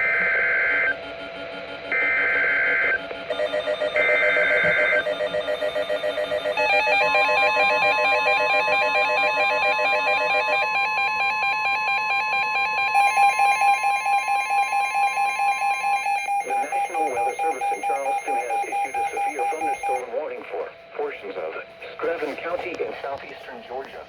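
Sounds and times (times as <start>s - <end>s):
pulsing electronic alarm: 0.0s - 20.0s
steady alarm tone: 0.0s - 20.0s.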